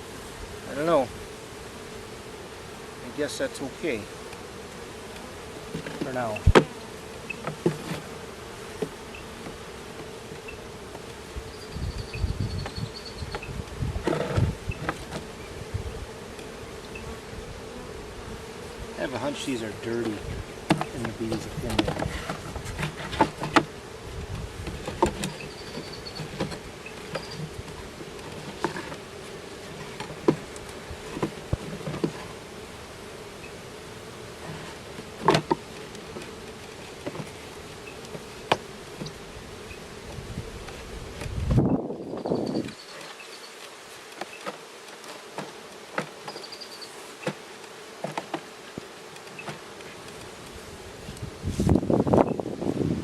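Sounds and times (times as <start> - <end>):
honeybees buzzing: 0.0 - 53.0
clicks and knocks from hive: 4.2 - 11.2, 12.0 - 15.4, 18.4 - 32.5, 34.2 - 52.8.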